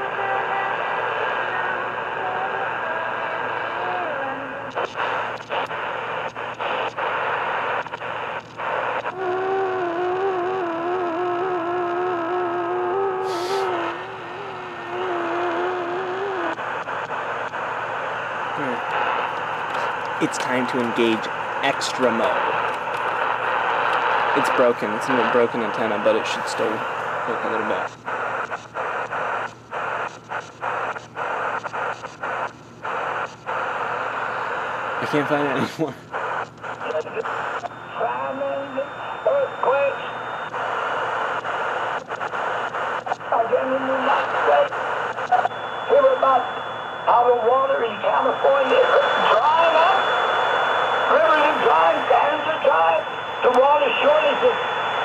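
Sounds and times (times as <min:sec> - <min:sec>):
shortwave radio static: 0:00.0 - 0:55.0.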